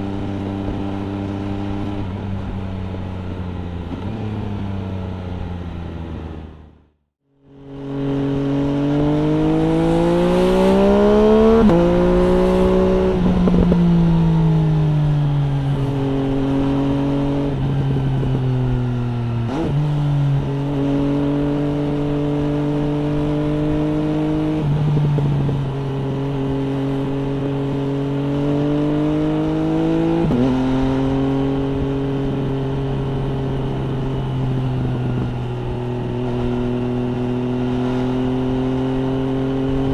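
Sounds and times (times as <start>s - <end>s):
motorcycle engine revving: 0.0s - 6.7s, 7.4s - 39.9s.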